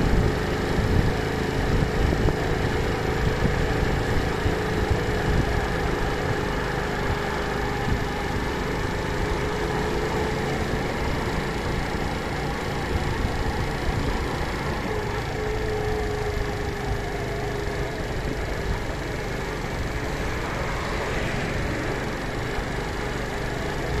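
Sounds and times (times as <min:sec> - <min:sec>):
engine-like hum: 0:00.0 - 0:24.0.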